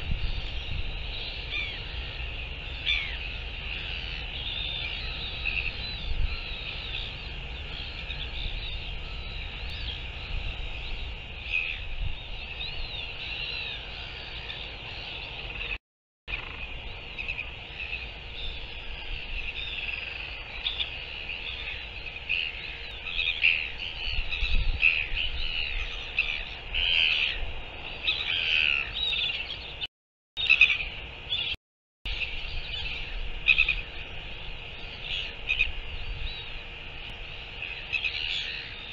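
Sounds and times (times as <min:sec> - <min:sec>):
birds chirping and whistling: 0:00.0 - 0:36.6, 0:37.3 - 0:38.9.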